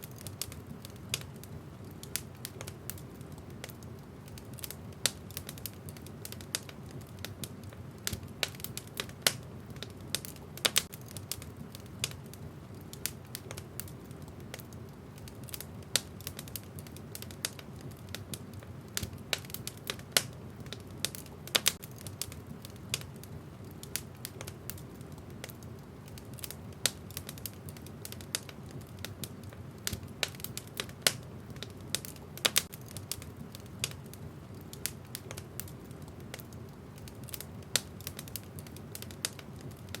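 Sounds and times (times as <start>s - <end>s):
logs crackling and popping: 0.0s - 40.0s
low rumble of flames: 0.0s - 40.0s.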